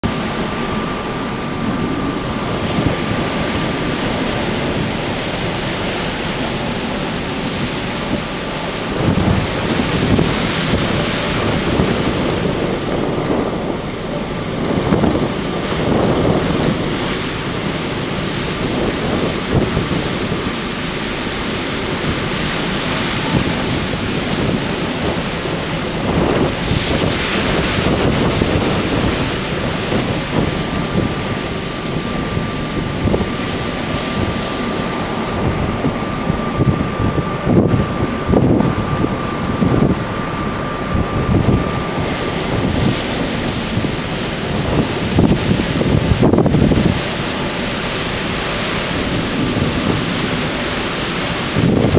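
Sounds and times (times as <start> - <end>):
rough water rushing: 0.0 - 51.9
ship's churning wake: 0.0 - 51.9
wind buffeting microphone: 0.0 - 51.9.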